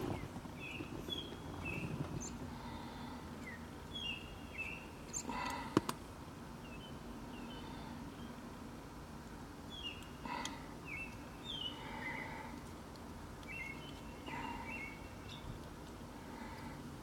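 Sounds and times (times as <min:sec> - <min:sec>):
birds chirping: 0:00.0 - 0:08.7, 0:09.6 - 0:17.0
faint steady background noise: 0:00.0 - 0:17.0.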